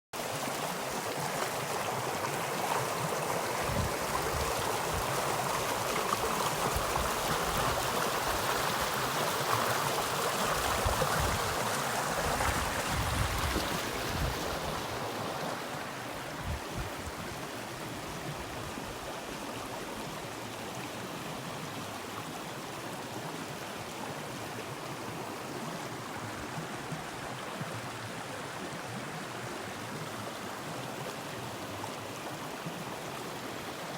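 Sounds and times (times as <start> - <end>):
river rippling over stones: 0.2 - 33.9.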